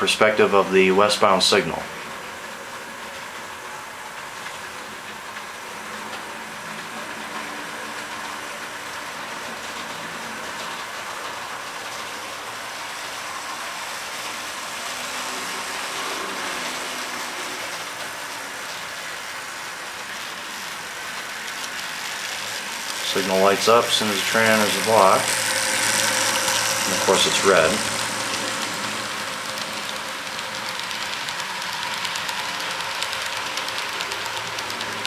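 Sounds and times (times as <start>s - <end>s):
model train hum and rumble: 0.0s - 35.0s.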